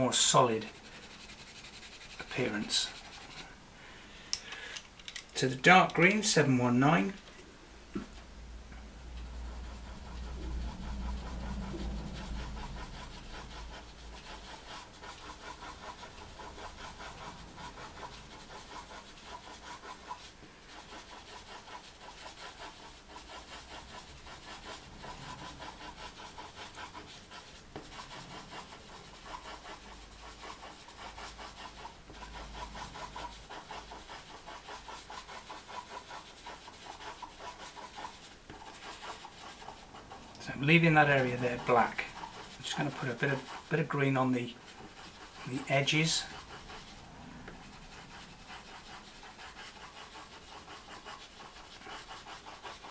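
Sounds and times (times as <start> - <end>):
pastel pencil scratching on paper: 0.0 - 3.6, 9.0 - 52.9.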